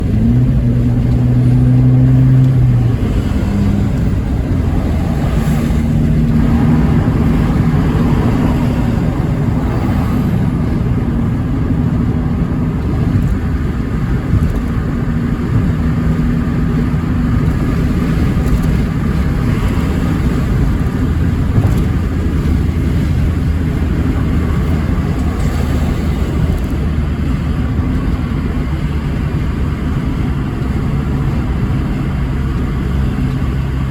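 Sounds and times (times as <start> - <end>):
car engine running hard: 0.0 - 33.9.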